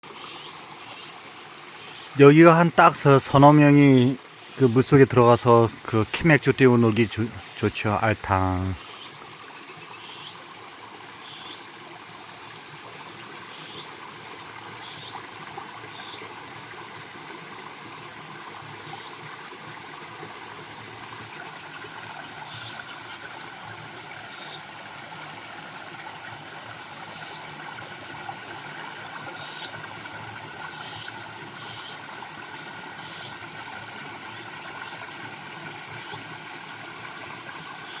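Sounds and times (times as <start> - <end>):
stream flowing: 0.0 - 38.0.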